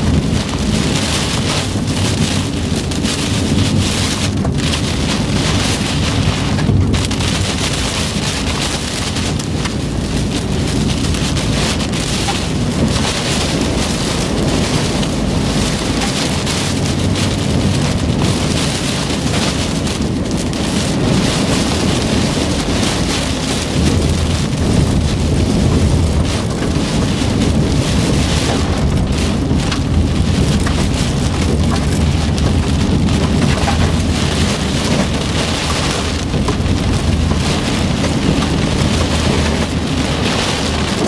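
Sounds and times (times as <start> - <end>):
heavy rain pelting car roof: 0.0 - 41.0
low drone of moving car: 0.0 - 41.0.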